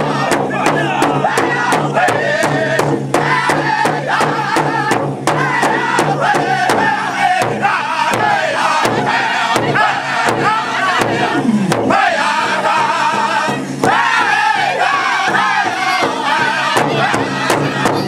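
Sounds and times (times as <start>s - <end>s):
group singing together: 0.0s - 18.0s
large drum beating: 0.0s - 18.0s.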